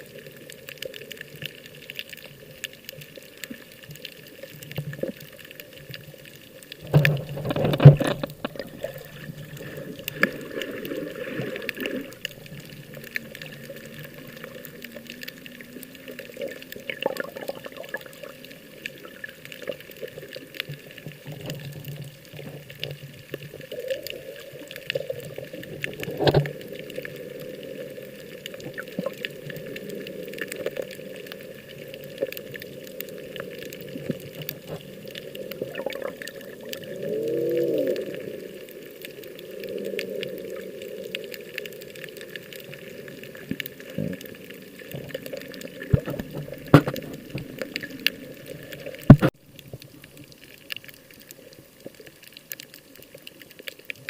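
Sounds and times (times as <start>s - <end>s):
water splashing: 0.0s - 54.0s.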